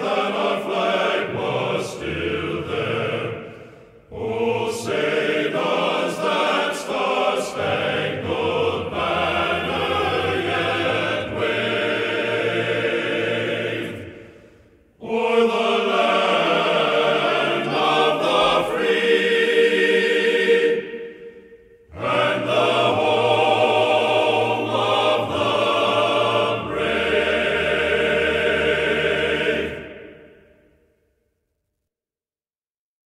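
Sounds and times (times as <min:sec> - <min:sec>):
choir singing held chords: 0:00.0 - 0:31.1.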